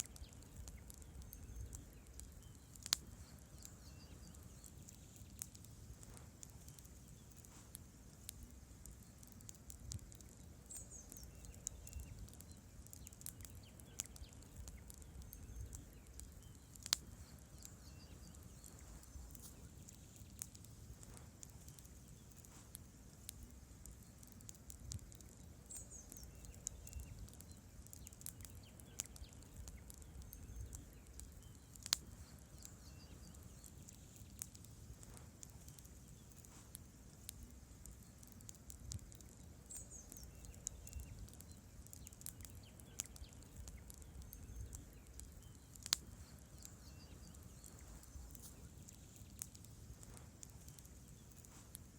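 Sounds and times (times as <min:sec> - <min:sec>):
campfire flames rumbling: 0:00.0 - 0:51.9
logs crackling: 0:00.0 - 0:51.9
loud pops from fire: 0:00.0 - 0:51.9.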